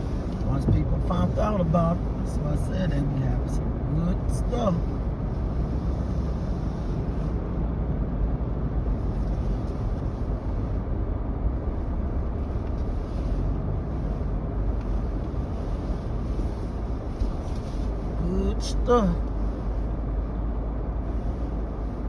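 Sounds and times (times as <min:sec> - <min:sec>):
car cabin engine and tyre rumble: 0:00.0 - 0:22.0.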